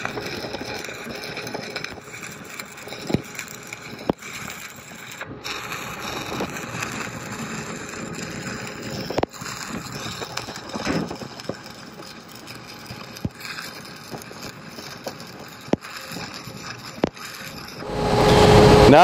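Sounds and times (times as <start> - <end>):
sharp welding pops: 0.0 - 19.0
welding arc crackling hiss: 0.0 - 19.0.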